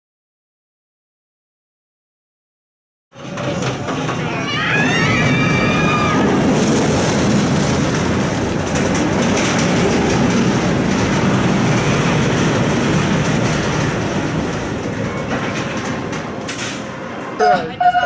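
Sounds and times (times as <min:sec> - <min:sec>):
roller coaster wheels rumbling: 0:03.1 - 0:18.0.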